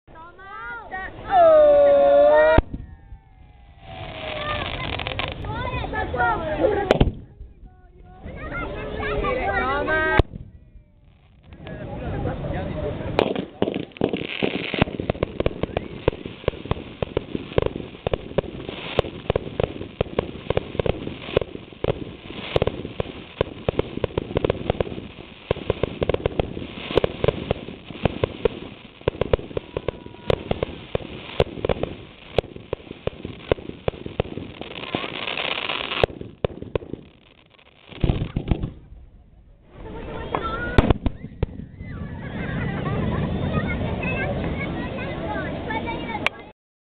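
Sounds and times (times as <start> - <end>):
fireworks bangs and crackles: 1.7 - 46.5.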